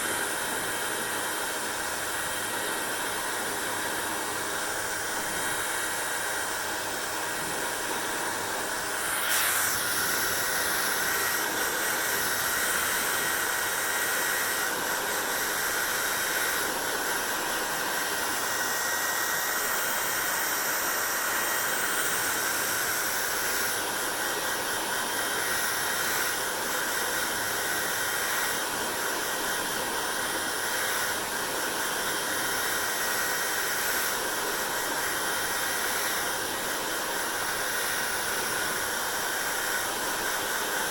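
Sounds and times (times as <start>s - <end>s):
hair dryer blowing air: 0.0s - 40.9s.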